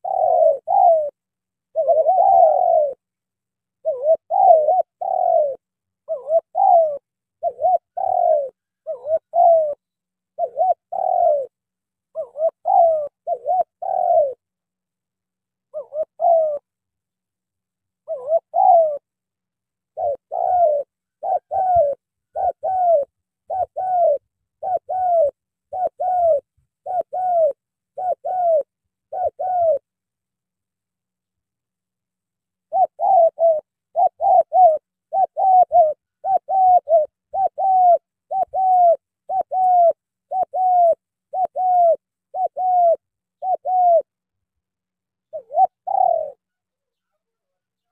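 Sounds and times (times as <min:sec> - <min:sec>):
dove cooing: 0:00.0 - 0:14.5, 0:15.7 - 0:16.7, 0:18.0 - 0:19.1, 0:19.9 - 0:29.9, 0:32.6 - 0:44.2, 0:45.2 - 0:47.9.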